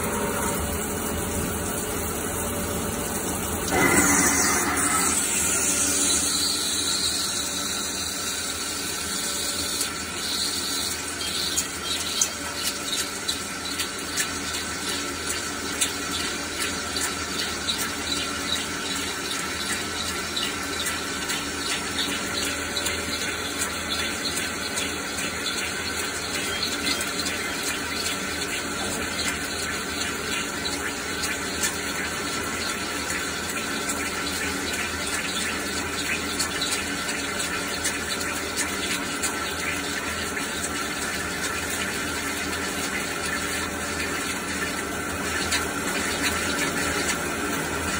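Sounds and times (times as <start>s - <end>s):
coolant hissing and splashing: 0.0s - 47.9s.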